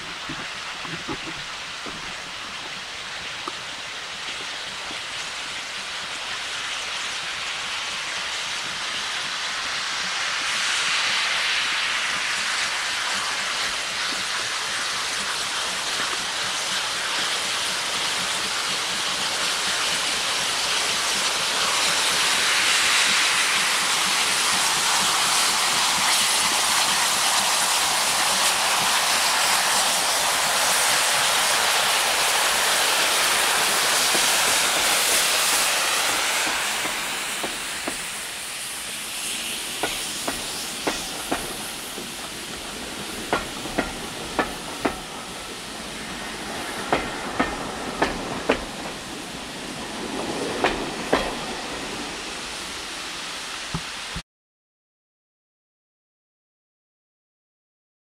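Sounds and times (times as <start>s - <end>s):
steam locomotive hissing steam: 0.0s - 54.2s.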